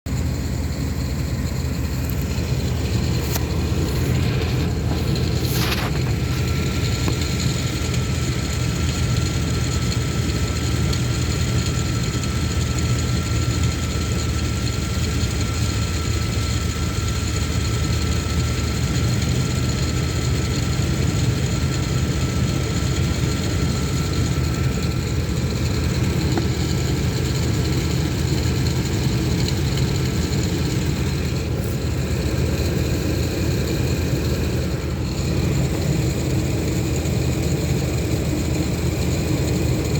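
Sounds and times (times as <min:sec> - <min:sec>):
engine low rumble: 0:00.0 - 0:39.9
high pulley whine: 0:00.1 - 0:39.9.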